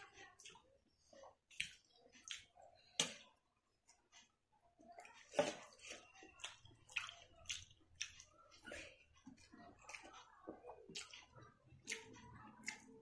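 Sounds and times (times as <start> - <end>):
fingers mixing food on steel plate: 0.0 - 13.0
chewing: 0.2 - 13.0.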